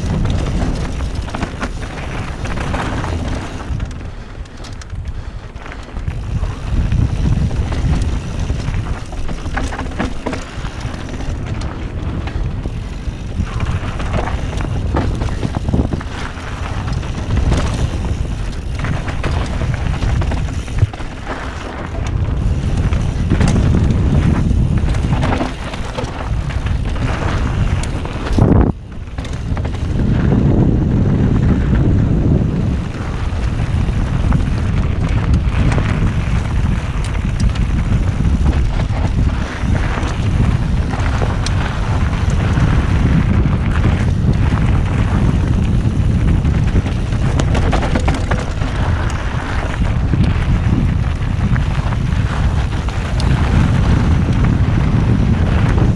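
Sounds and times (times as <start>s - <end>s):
tyres crunching over gravel: 0.0s - 55.9s
wind buffeting microphone: 0.0s - 55.9s.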